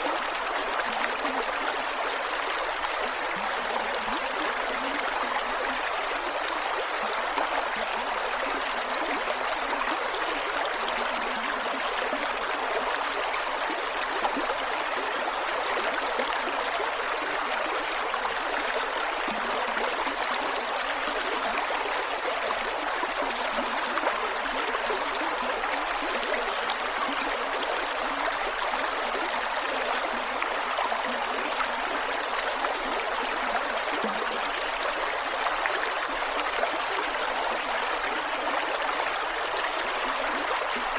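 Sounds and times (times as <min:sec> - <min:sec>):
water flowing over rocks: 0:00.0 - 0:40.9.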